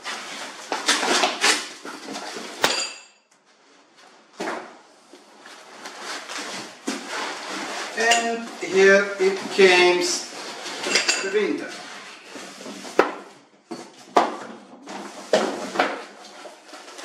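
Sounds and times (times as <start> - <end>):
cardboard and foam rustling: 0.0 - 2.6, 3.5 - 17.0.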